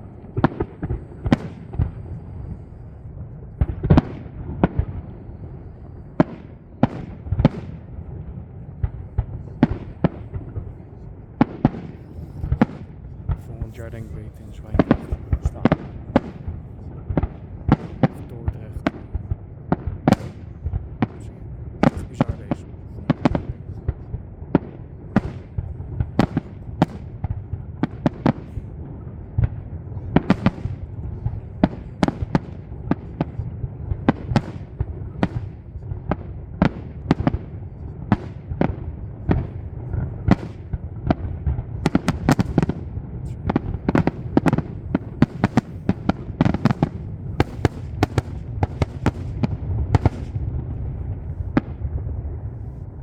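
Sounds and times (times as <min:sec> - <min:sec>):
firework bursts and cracks: 0:00.0 - 0:02.9, 0:06.2 - 0:10.8, 0:11.4 - 0:53.0
rumble of firework launches: 0:00.0 - 0:53.0.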